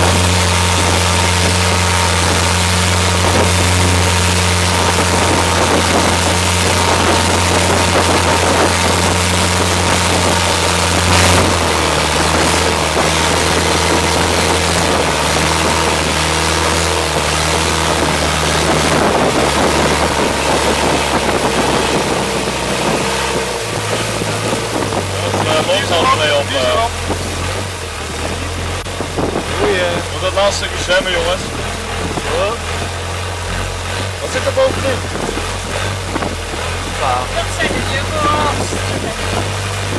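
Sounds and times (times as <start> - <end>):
motorboat engine drone: 0.0 - 39.9
water and wind rushing: 0.0 - 39.9.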